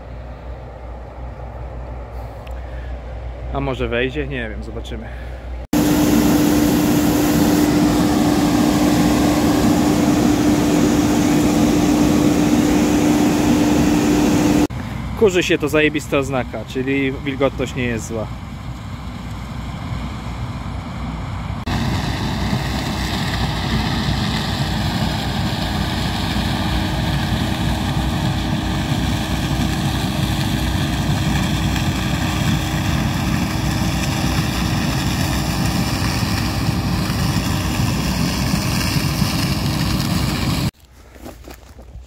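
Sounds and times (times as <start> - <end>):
combine harvester engine and threshing: 0.0 - 42.0.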